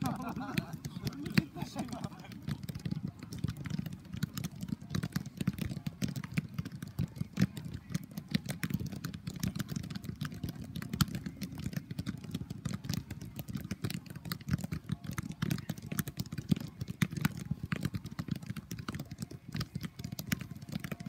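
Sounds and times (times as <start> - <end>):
footballs thudding on feet: 0.0 - 21.0.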